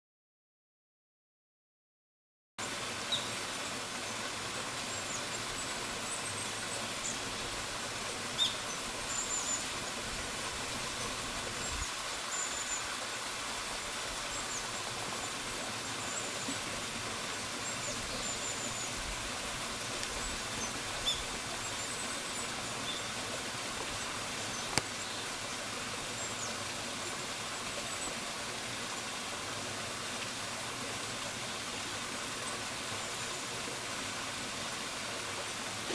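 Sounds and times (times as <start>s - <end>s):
waterfall rushing: 2.6s - 35.9s.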